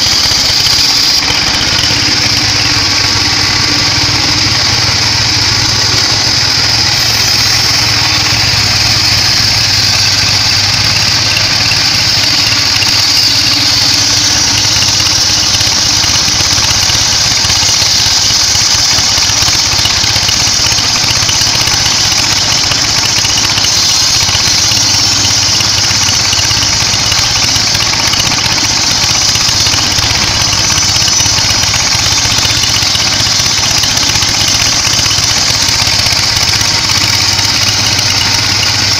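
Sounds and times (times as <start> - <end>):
bandsaw running: 0.0 - 38.9.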